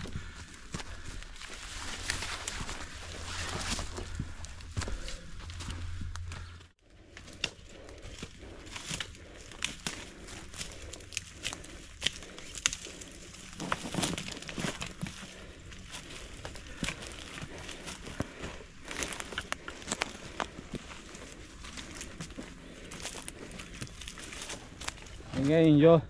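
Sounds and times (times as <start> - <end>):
footsteps crunching on dry leaves: 0.0 - 6.6, 7.5 - 25.7
trekking poles clicking: 0.0 - 25.4.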